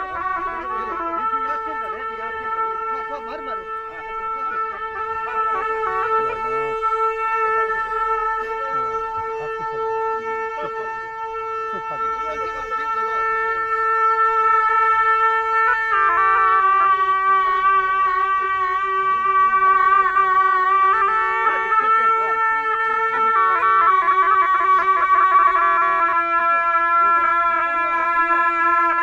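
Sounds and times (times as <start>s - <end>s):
double-reed horns long notes: 0.0s - 29.0s.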